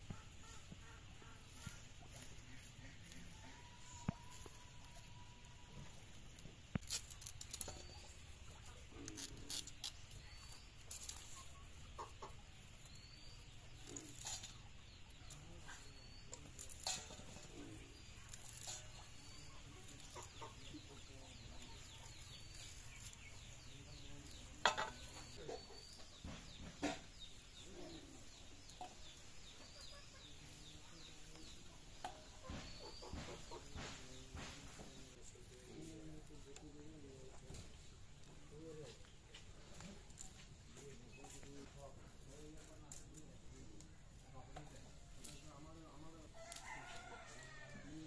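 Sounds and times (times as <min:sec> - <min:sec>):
chickens clucking: 0:00.0 - 0:06.6, 0:07.7 - 0:46.3.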